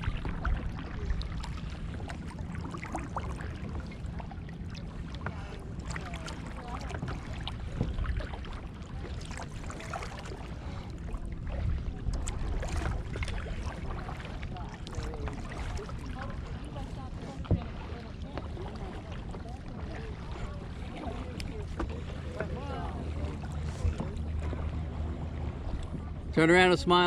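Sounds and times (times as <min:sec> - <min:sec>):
low rumble: 0:00.0 - 0:27.0
paddle splashing water: 0:00.0 - 0:27.0.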